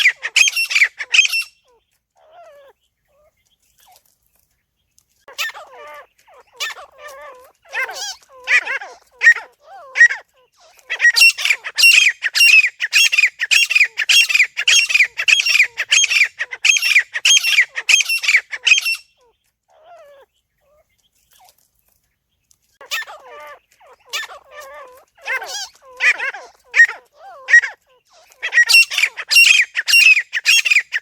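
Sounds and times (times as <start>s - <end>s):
francolin calling: 0.0s - 3.3s, 5.4s - 20.3s, 22.8s - 31.0s.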